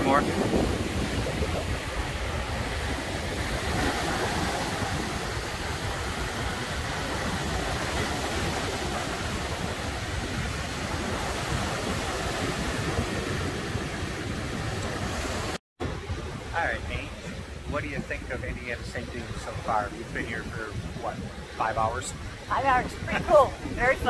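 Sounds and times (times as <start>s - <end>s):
waves breaking on beach: 0.0s - 24.0s
wind rumbling on microphone: 0.0s - 24.0s.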